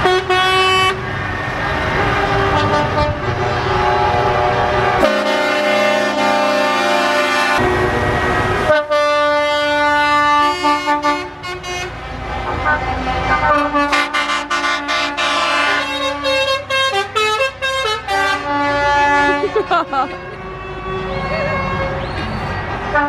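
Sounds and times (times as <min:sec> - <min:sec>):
truck air horns blasting: 0:00.0 - 0:01.1, 0:01.9 - 0:23.0
low rumble of engines: 0:00.0 - 0:23.0.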